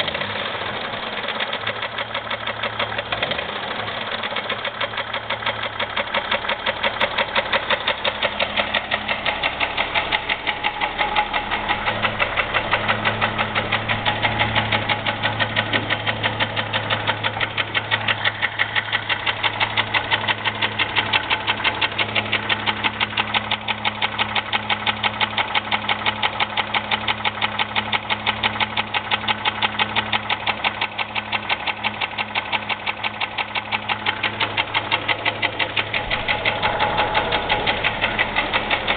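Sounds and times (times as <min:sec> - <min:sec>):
car engine running with rhythmic knock: 0:00.0 - 0:38.9.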